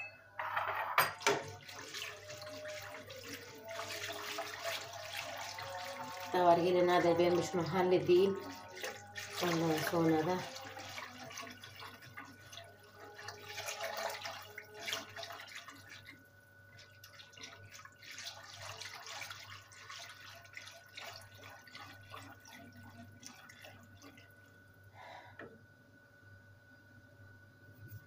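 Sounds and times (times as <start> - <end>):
liquid sloshing: 1.1 - 24.6.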